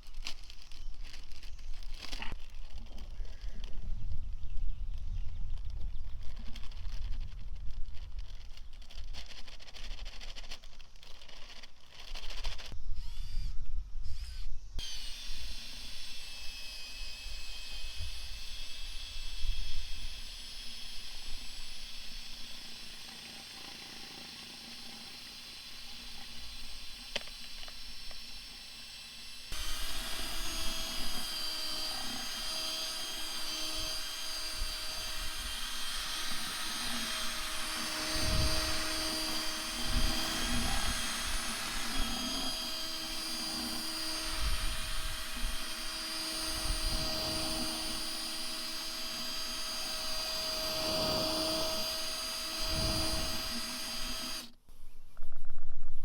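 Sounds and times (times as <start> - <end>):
electric drill mixing paddle whine: 0.0 - 54.7.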